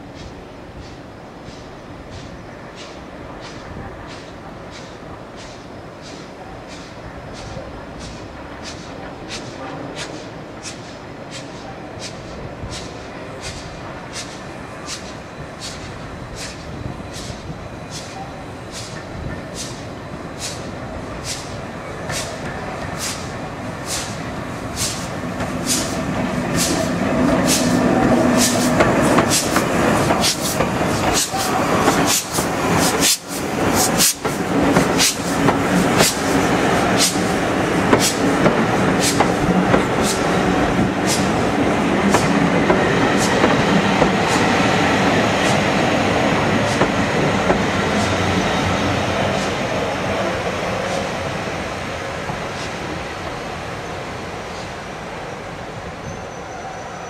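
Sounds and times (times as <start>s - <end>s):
train rumble: 0.0s - 57.0s
train wheels clicking over rail joints: 0.1s - 54.7s.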